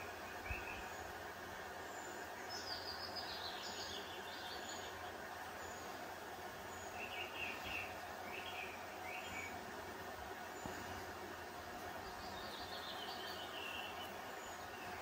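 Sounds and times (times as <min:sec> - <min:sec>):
background hiss: 0:00.0 - 0:15.0
small birds chirping: 0:00.0 - 0:15.0.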